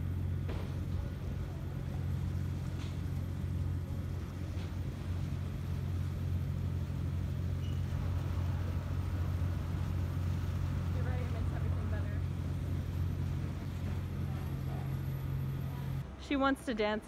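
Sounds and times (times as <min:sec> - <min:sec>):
ferry engine drone: 0:00.0 - 0:17.0.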